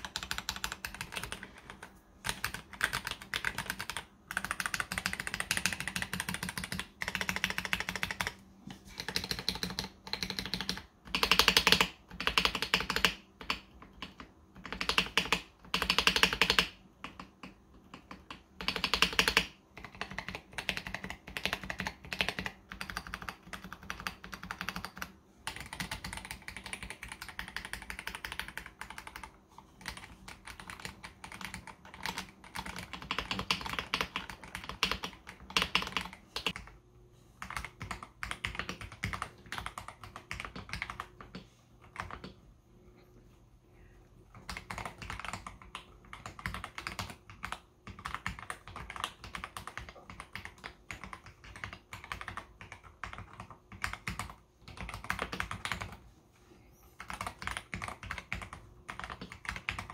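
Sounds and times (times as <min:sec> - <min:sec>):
mechanical keyboard typing: 0:00.0 - 0:36.8, 0:37.4 - 0:42.4, 0:44.3 - 0:56.0, 0:57.0 - 0:59.9.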